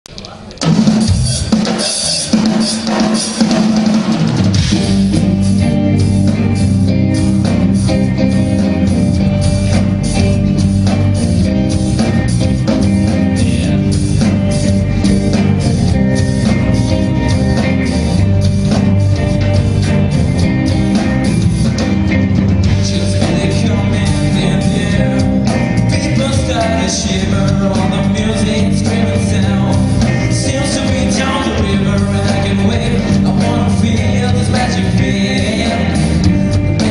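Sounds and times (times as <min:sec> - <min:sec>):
electric guitar: 0:00.1 - 0:36.9
drum kit beat: 0:00.2 - 0:36.9.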